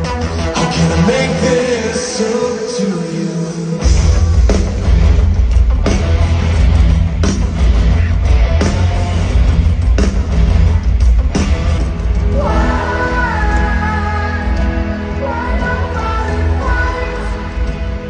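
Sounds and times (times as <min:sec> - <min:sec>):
heavy drums: 0:00.0 - 0:18.0
live rock music: 0:00.0 - 0:18.0.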